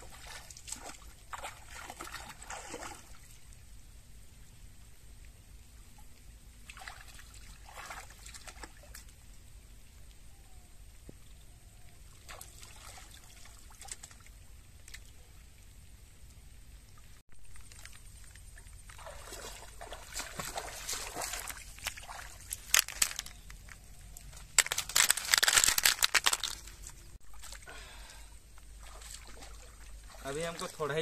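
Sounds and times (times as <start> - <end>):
water splashing and sloshing: 0.0 - 3.7, 5.1 - 10.5, 11.1 - 31.0.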